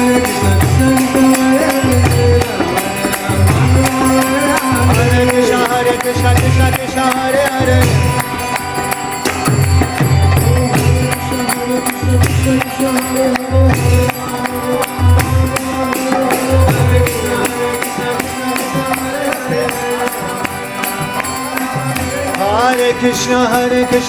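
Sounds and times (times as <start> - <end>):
hand cymbals jingling: 0.0 - 24.0
people chanting: 0.0 - 24.0.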